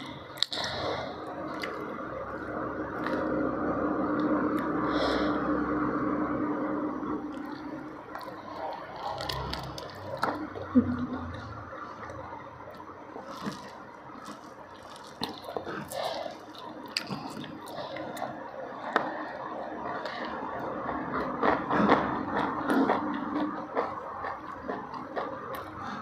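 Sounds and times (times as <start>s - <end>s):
wet chewing and mouth sounds: 0.0s - 5.3s, 7.2s - 26.0s.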